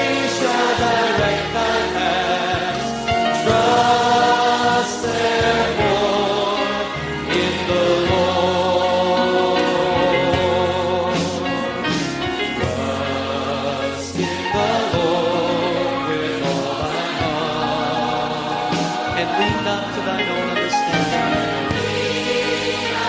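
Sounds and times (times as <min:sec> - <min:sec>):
backing music: 0:00.0 - 0:23.0
gospel choir singing: 0:00.0 - 0:23.0.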